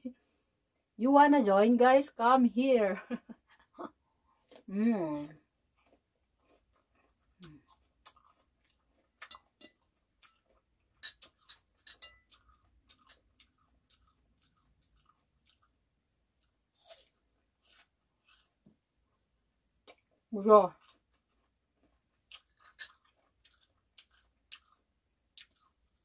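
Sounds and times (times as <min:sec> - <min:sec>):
crunchy chewing: 0:04.4 - 0:26.0.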